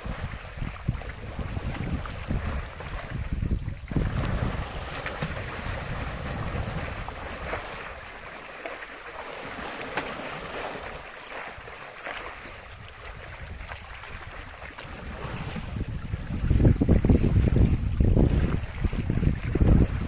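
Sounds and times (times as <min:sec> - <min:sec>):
wind rumbling on microphone: 0:00.0 - 0:08.4, 0:10.4 - 0:20.0
muddy water sloshing and splashing: 0:00.0 - 0:20.0.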